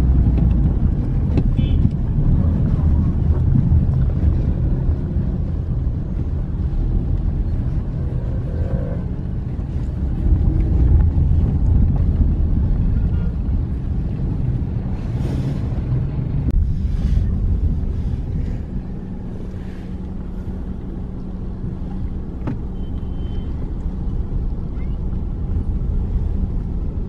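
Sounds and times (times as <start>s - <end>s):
car engine rumble: 0.0s - 27.0s
road noise: 0.0s - 27.0s.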